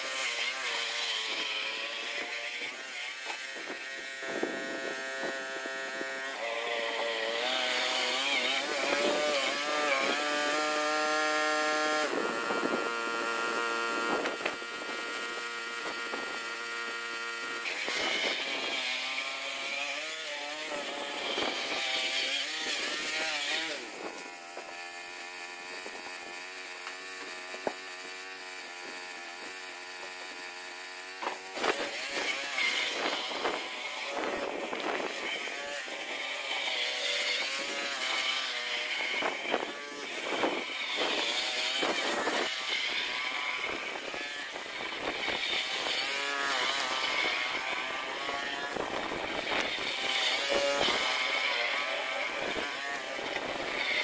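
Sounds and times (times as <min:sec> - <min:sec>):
lawnmower motor running: 0:00.0 - 0:54.0.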